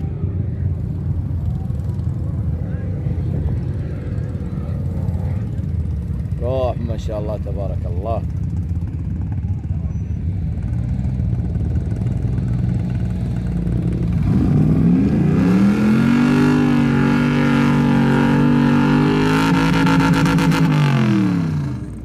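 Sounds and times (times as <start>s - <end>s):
truck engine idling and revving: 0.0s - 22.0s.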